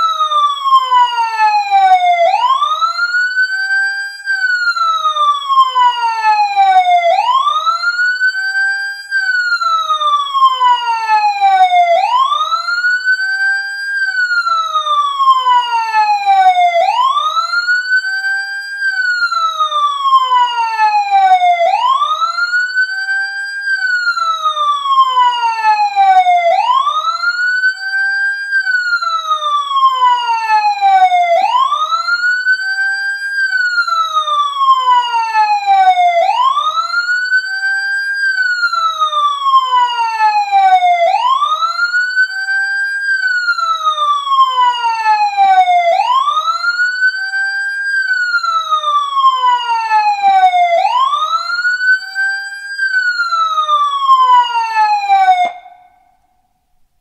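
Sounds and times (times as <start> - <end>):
emergency siren wailing: 0.0 - 56.5.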